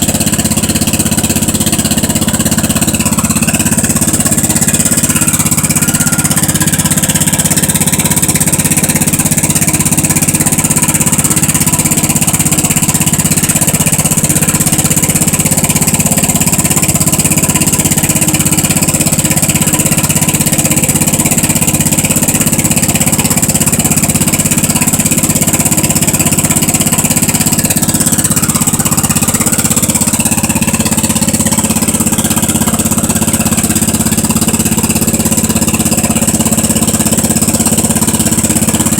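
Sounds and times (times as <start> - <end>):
garden tractor engine running: 0.0 - 38.9.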